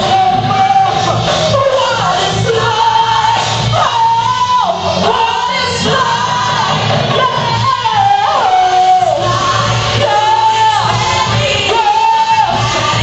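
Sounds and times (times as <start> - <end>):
drums: 0.0 - 13.0
live band playing: 0.0 - 13.0.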